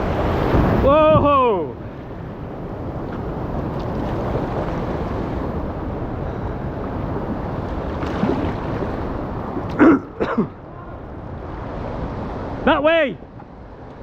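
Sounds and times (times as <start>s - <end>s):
wind buffeting microphone: 0.0s - 12.7s
river water rushing: 0.0s - 13.8s.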